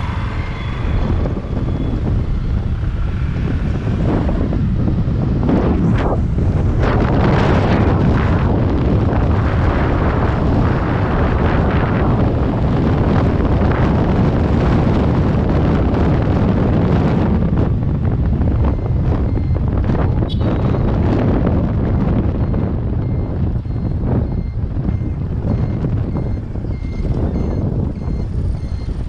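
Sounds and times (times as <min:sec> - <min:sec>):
motorcycle running: 0:00.0 - 0:29.0
wind buffeting microphone: 0:00.0 - 0:29.0.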